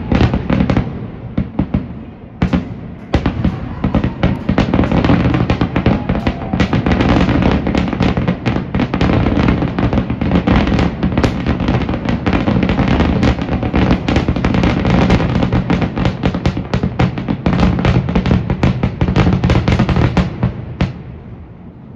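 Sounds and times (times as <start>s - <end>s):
fireworks booming and crackling: 0.0s - 21.9s.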